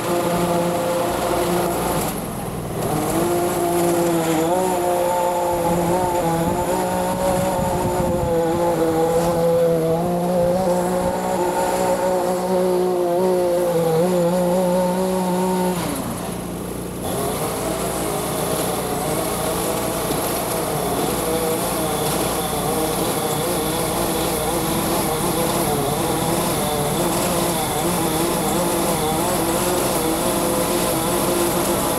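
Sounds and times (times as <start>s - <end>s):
rough engine sound: 0.0s - 31.9s
small petrol engine running: 0.0s - 31.9s.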